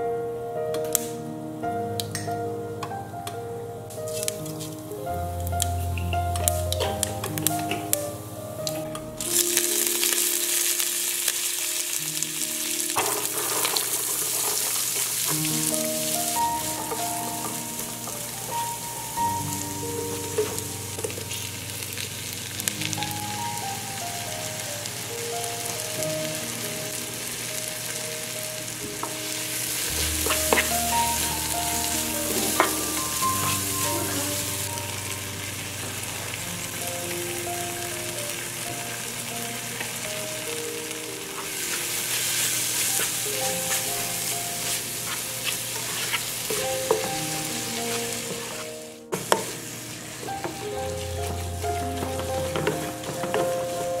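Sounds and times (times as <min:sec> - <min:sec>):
background music: 0:00.0 - 0:54.0
vegetables sizzling in oil: 0:08.6 - 0:54.0.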